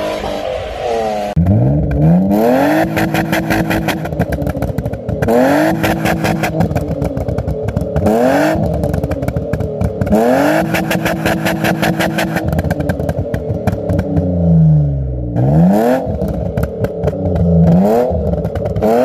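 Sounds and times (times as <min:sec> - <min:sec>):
car engine revving: 0:00.0 - 0:19.0
rev limiter crackle and exhaust pops: 0:01.4 - 0:19.0.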